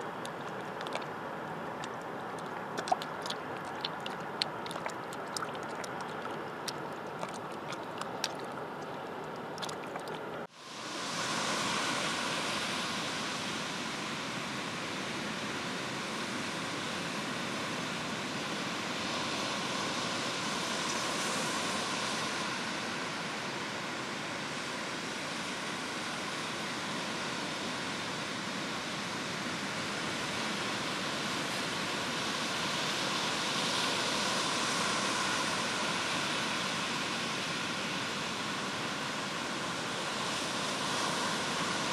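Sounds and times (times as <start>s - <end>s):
ocean surf breaking on beach: 0.0s - 41.9s.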